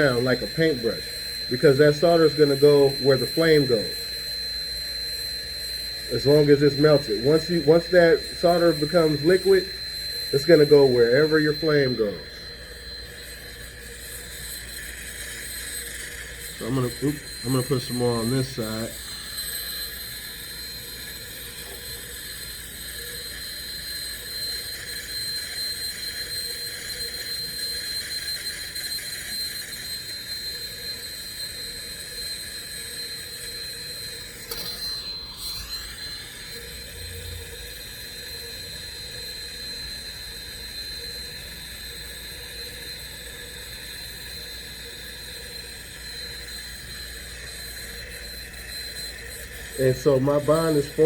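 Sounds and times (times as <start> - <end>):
torch flame hissing and whistling: 0.0 - 51.0.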